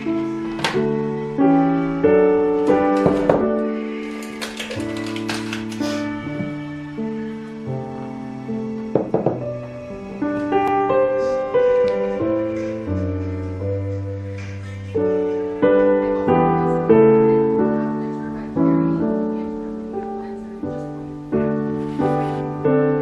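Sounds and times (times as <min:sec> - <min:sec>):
gentle piano chords: 0:00.0 - 0:23.0.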